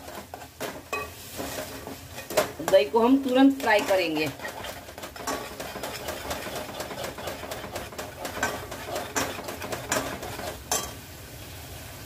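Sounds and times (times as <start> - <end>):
metal spoon scraping a pot: 0.0 - 10.9
curd frying in hot oil: 0.0 - 12.0.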